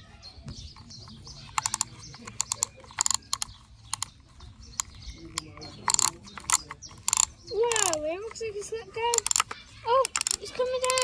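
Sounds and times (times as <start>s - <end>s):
plastic toy mechanism clicking: 0.6s - 11.0s.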